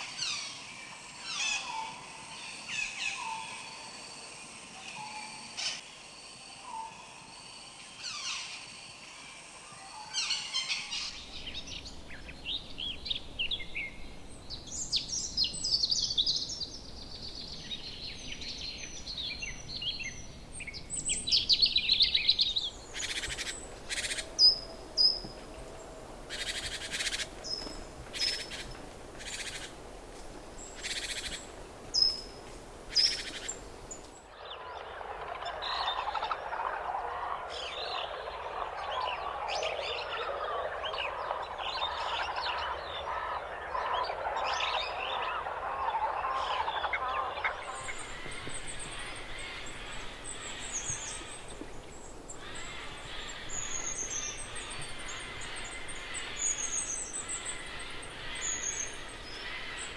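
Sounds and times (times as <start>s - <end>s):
tropical birds calling: 10.0s - 59.9s
flock of birds chattering: 10.2s - 59.9s.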